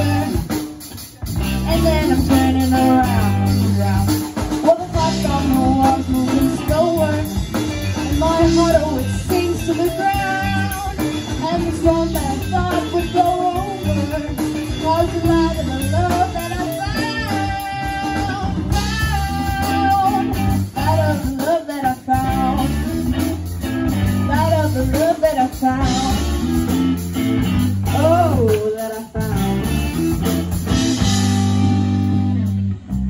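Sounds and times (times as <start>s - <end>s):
woman singing lead: 0.0s - 26.8s, 27.4s - 30.0s
drum kit: 0.0s - 33.0s
electric guitars: 0.0s - 33.0s
keyboard: 0.0s - 33.0s.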